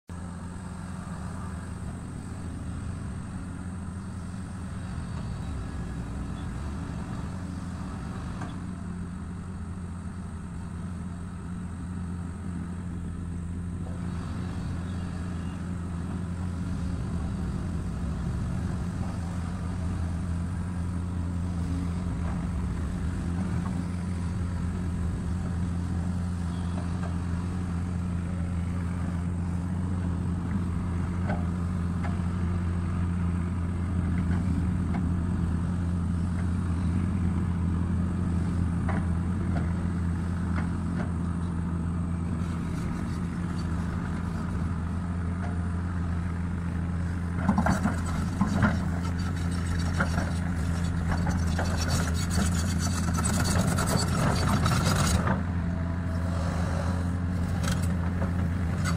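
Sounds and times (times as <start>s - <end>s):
excavator diesel engine droning: 0.1s - 58.9s.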